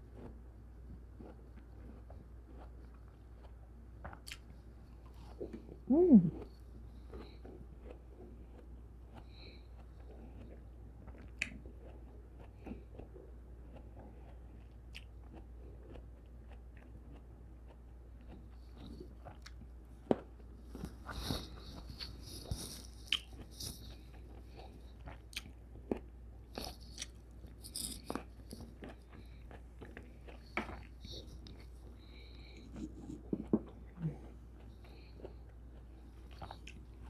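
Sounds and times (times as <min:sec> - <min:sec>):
chewing grapes: 0:00.0 - 0:37.0.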